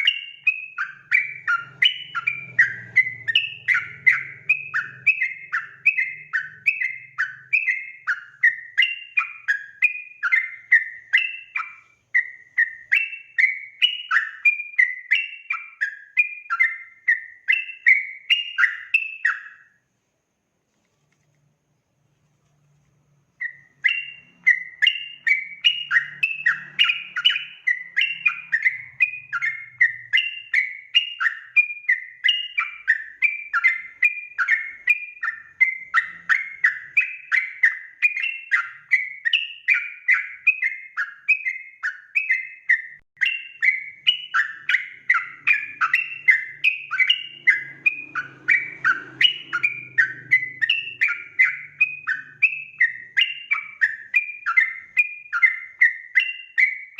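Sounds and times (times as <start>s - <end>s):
bulbul song: 0.0s - 20.0s, 22.7s - 56.9s.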